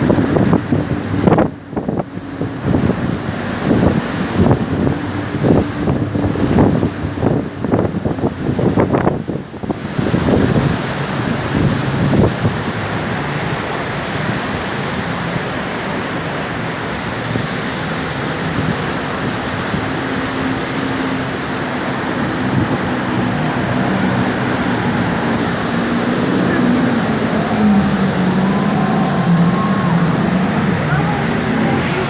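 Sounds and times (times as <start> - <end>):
wind buffeting microphone: 0.0 - 14.8, 16.7 - 32.0
boat motor humming: 0.0 - 32.0
water rushing: 0.0 - 32.0.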